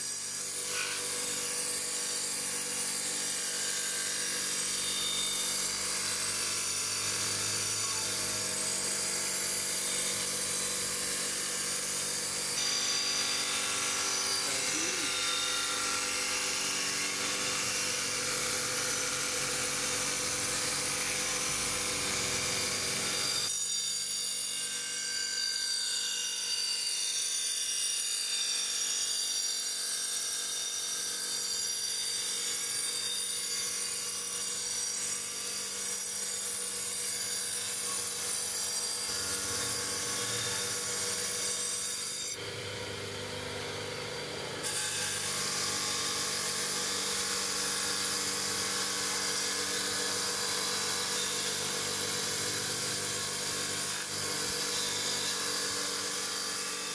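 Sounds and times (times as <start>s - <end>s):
bench grinder motor hum: 0.0s - 23.5s, 33.3s - 56.9s.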